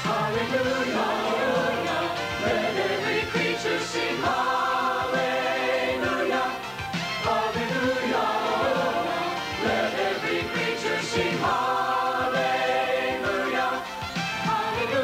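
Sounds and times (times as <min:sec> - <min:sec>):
mixed choir singing: 0:00.0 - 0:15.0.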